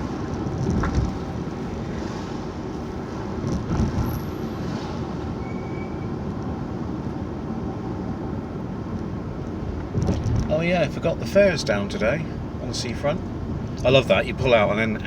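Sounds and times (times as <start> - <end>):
car road noise from inside: 0.0 - 15.0.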